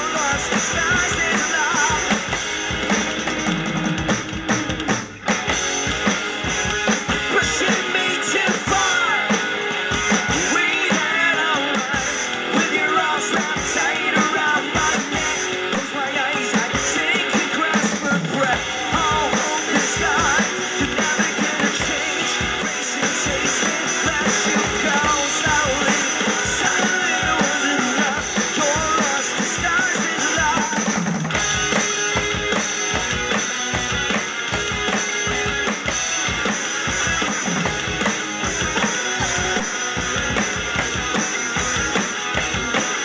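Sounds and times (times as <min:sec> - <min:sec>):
rock song with electric guitar: 0:00.0 - 0:43.0.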